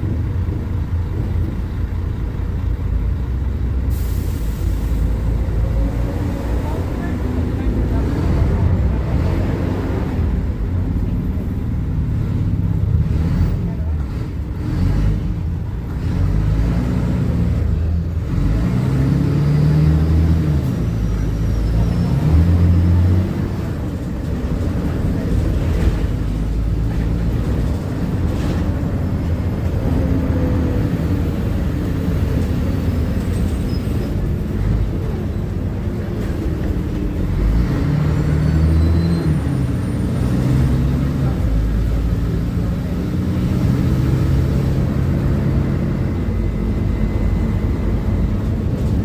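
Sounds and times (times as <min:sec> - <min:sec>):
bus diesel engine running: 0:00.0 - 0:49.0.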